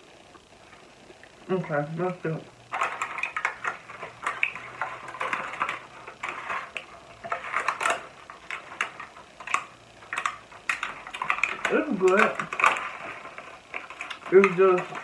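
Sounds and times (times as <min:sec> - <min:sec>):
chewing crunchy food: 0:02.6 - 0:15.0.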